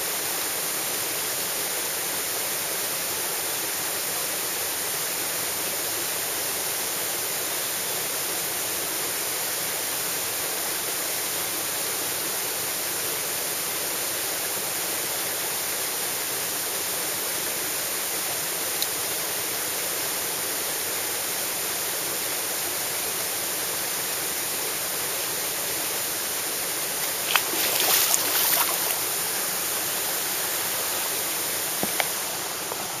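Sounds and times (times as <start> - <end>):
mountain stream rushing: 0.0 - 33.0.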